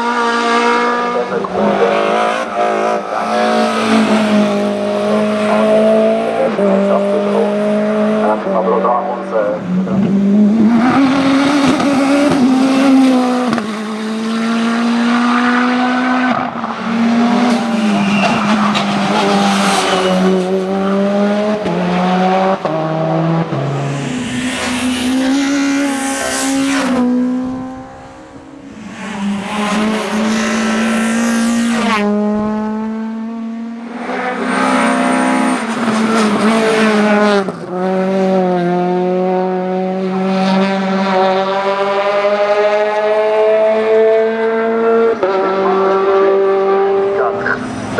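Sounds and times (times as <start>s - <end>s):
racing car engines revving: 0.0s - 47.9s.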